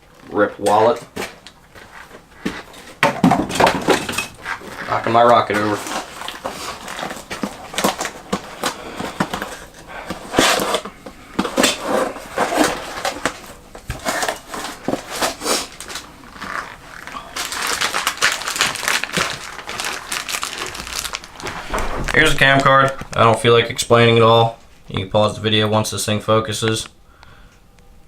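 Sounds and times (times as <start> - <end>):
packaging rustling: 1.1 - 23.7.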